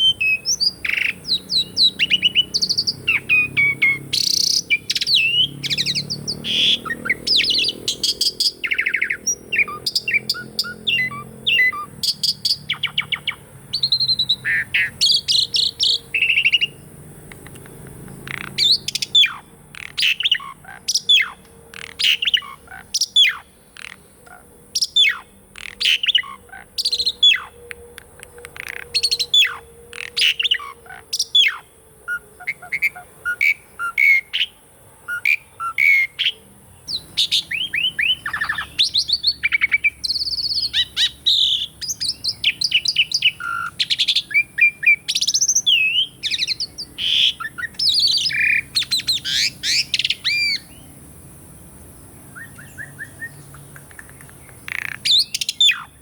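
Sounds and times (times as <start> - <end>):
starling singing whistles: 0.0 - 16.8, 18.2 - 24.0, 24.8 - 50.8, 52.3 - 56.0
bird chattering notes: 0.0 - 34.5, 35.1 - 50.8, 52.4 - 56.0.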